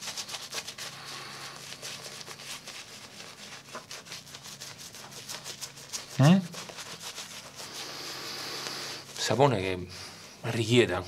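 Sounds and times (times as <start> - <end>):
shaving brush scrubbing lather: 0.0 - 9.8.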